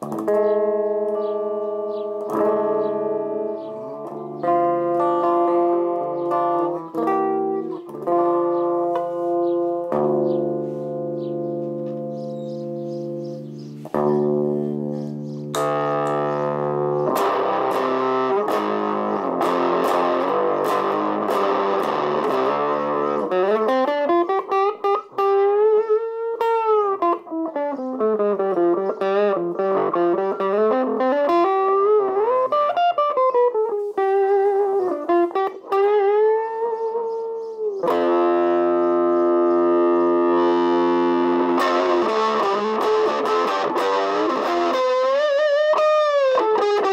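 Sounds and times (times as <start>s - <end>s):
fuzzy electric guitar: 0.0s - 46.9s.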